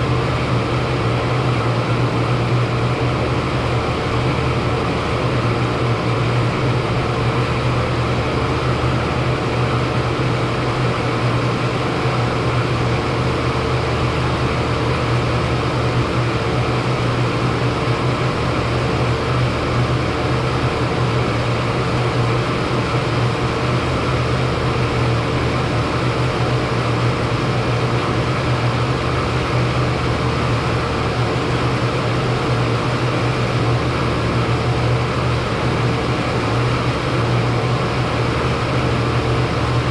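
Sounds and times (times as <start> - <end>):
hvac unit fans humming: 0.0 - 39.9
whirring rush of air: 0.0 - 39.9.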